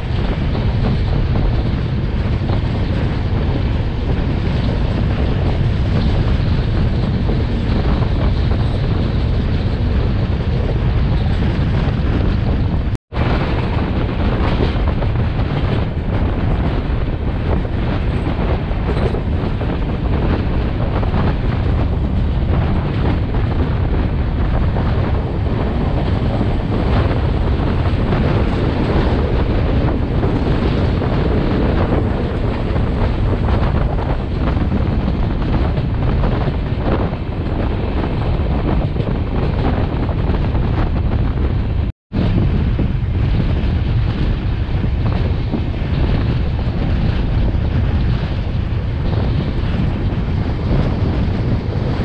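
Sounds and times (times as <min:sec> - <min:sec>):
passenger train running: 0:00.0 - 0:52.0
wind buffeting microphone: 0:00.0 - 0:52.0.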